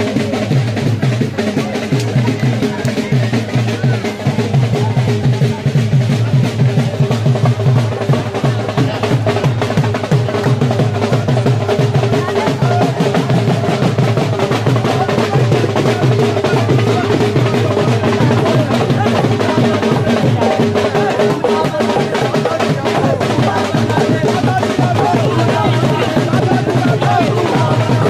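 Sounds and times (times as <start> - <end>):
fast continuous drumming: 0.0 - 28.0.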